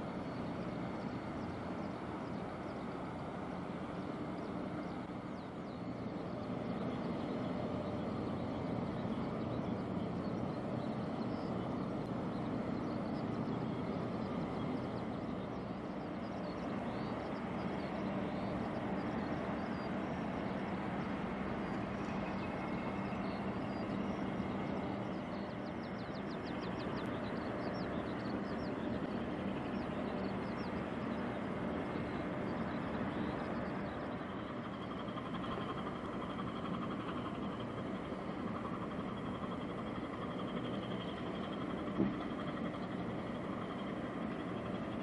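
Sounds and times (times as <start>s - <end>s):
ship engine humming: 0.0s - 45.0s.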